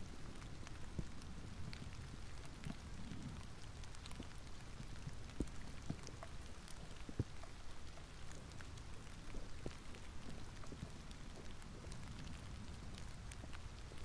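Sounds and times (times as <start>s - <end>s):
light rain pattering: 0.0s - 14.0s
low steady rumble: 0.0s - 14.0s.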